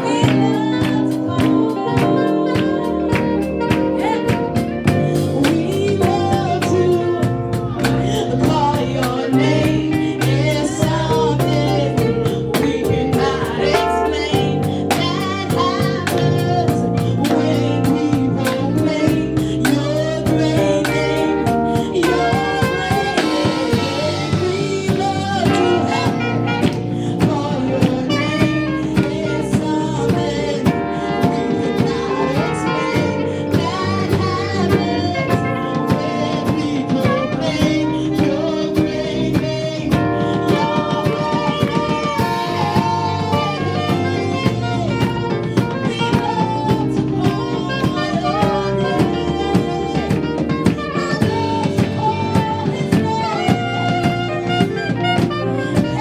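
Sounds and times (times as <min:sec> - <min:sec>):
drum kit beat: 0:00.0 - 0:56.0
worship band playing: 0:00.0 - 0:56.0.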